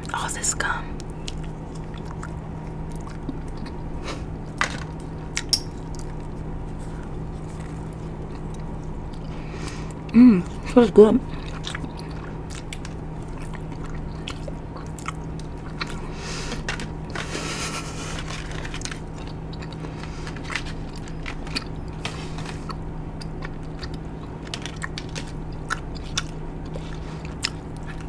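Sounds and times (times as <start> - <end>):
gum chewing with wet smacks: 1.0 - 10.7, 11.3 - 17.3, 18.1 - 28.0.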